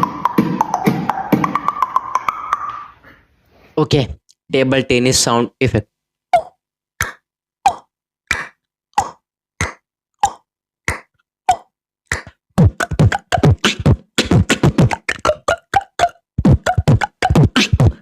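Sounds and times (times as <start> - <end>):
beatboxed ping pong pocks: 0.0 - 2.8, 6.4 - 18.0
beatboxed pops and thumps: 0.0 - 2.8, 6.4 - 18.0.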